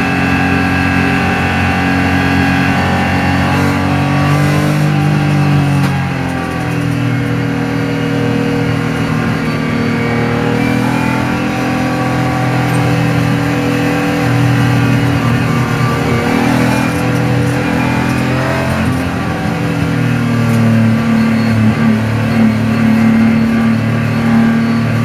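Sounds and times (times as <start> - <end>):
car engine under load: 0.0 - 25.0.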